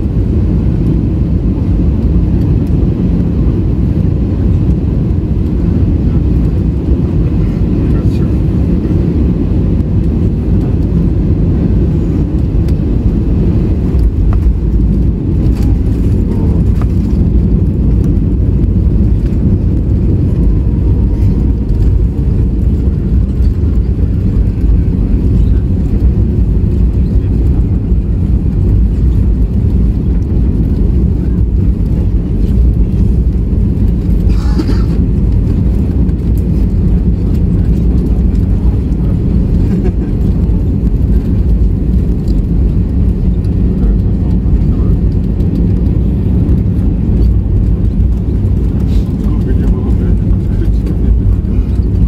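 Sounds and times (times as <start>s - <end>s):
airplane cabin rumble: 0.0s - 52.0s.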